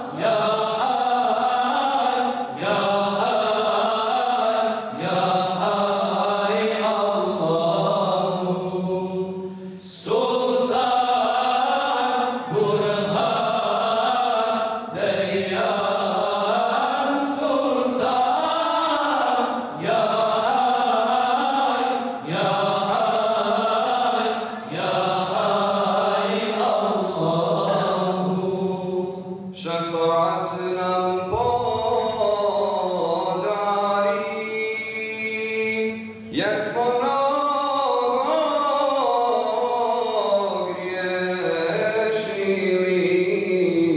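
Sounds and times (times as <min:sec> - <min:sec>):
men chanting in unison: 0:00.0 - 0:43.9.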